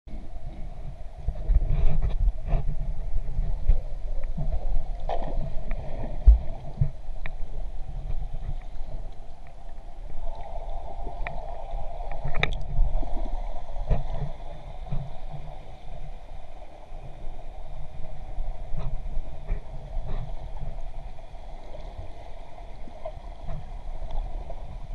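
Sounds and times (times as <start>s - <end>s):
underwater rumble of moving water: 0.1s - 24.9s.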